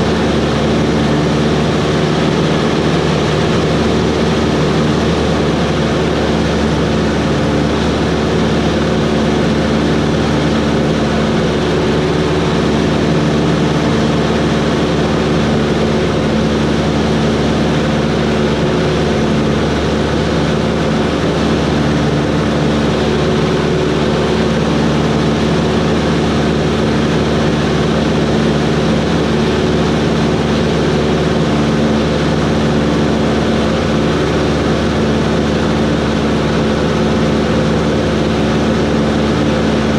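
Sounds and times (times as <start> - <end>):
light aircraft engine and propeller drone: 0.0 - 39.9.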